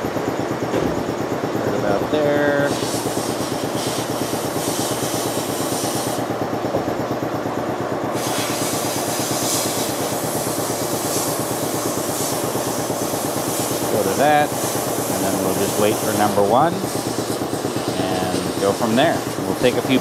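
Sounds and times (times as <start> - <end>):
lathe gear rattle: 0.0 - 20.0.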